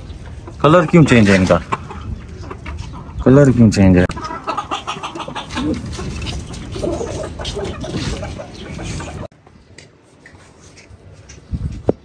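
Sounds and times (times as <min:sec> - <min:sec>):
chickens clucking: 0:00.0 - 0:09.8.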